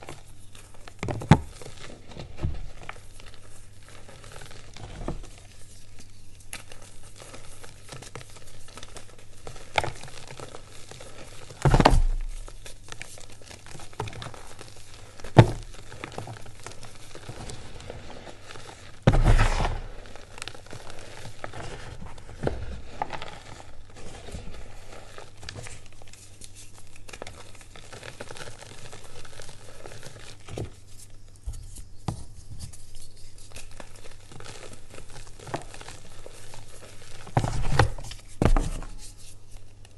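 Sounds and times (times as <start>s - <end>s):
chalk crunching and crumbling: 0.0s - 39.9s
powder sifting through fingers: 0.0s - 39.9s.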